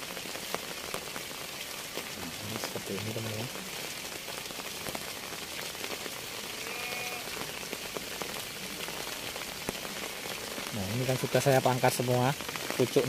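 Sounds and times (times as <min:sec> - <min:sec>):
rain on leaves and plastic: 0:00.0 - 0:13.0
raindrop ticks: 0:00.0 - 0:13.0.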